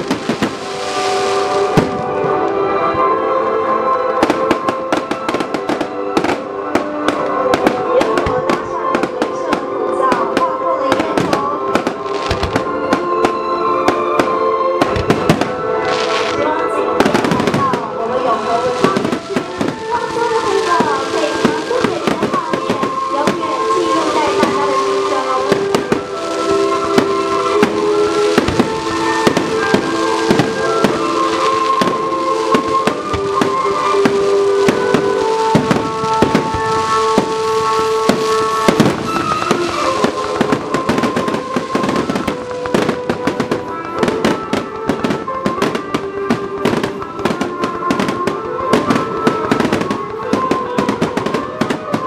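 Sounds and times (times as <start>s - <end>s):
background music with held notes: 0.0s - 52.0s
fireworks bangs and crackles: 0.0s - 52.0s.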